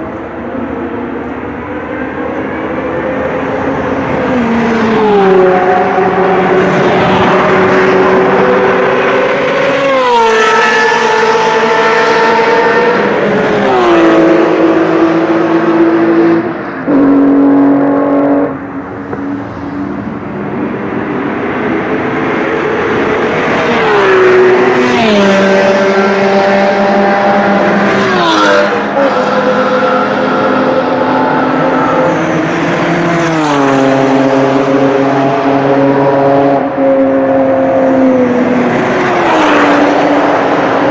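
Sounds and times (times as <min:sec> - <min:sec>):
sports cars passing at speed: 0:00.0 - 0:40.9.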